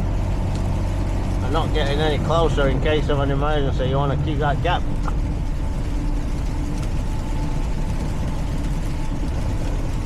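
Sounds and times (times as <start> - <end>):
diesel truck engine drone: 0.0 - 10.0
road noise: 0.0 - 10.0.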